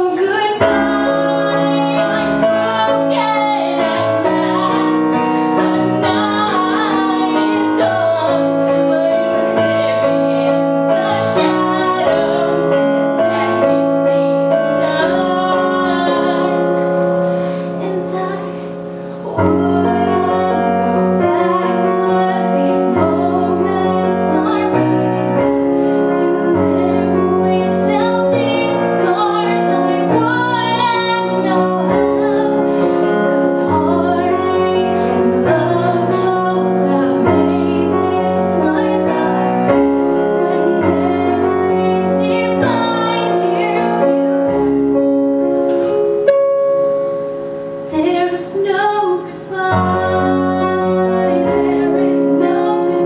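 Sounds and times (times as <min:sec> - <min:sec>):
woman singing: 0:00.0 - 0:44.7, 0:47.9 - 0:53.0
piano accompaniment: 0:00.0 - 0:53.0.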